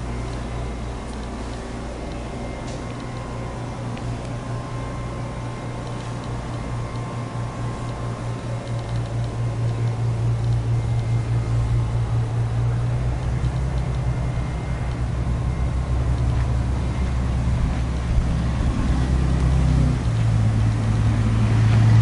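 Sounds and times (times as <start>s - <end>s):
steady low hum: 0.0s - 22.0s
deep rumble: 1.7s - 22.0s.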